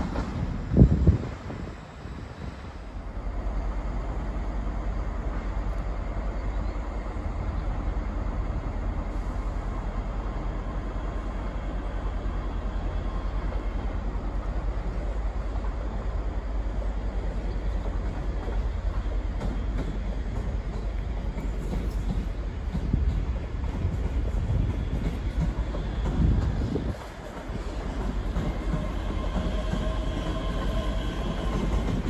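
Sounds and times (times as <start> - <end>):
train rumbling along track: 0.0 - 32.0.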